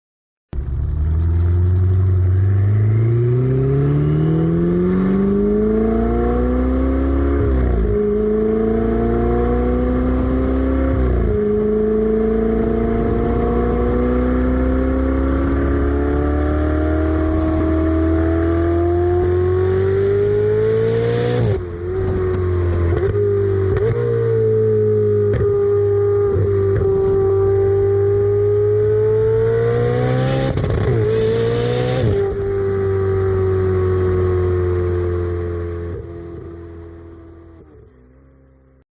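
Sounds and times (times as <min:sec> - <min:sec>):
sports car engine accelerating: 0:00.6 - 0:38.8.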